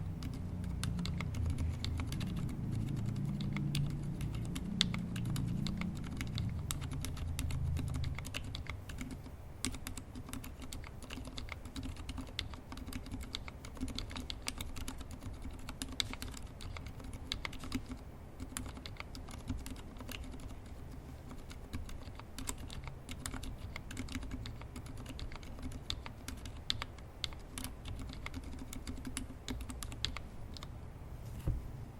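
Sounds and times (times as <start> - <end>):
mechanical keyboard typing: 0.0 - 30.7.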